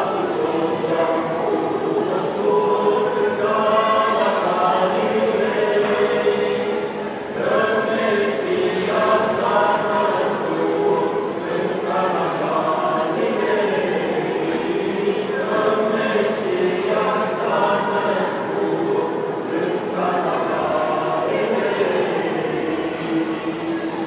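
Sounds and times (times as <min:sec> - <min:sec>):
men and women singing together: 0:00.0 - 0:24.0.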